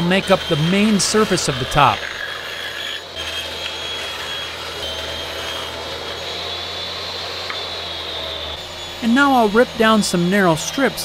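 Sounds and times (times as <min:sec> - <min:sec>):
table saw whining: 0:00.0 - 0:11.0.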